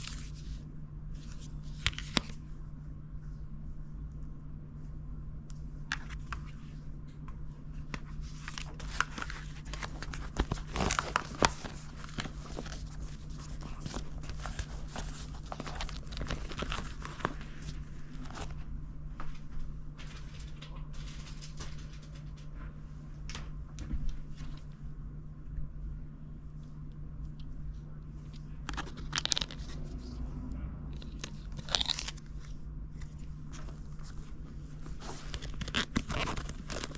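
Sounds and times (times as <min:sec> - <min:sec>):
crinkling and rustling of handling: 0:00.0 - 0:02.6, 0:04.1 - 0:24.9, 0:26.4 - 0:36.9
steady low hum: 0:00.0 - 0:36.9.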